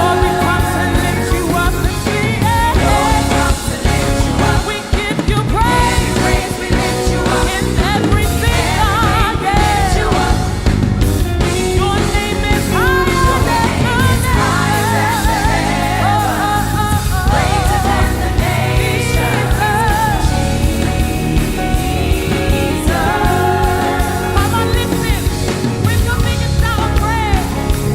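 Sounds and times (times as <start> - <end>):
worship band playing: 0.0 - 27.9.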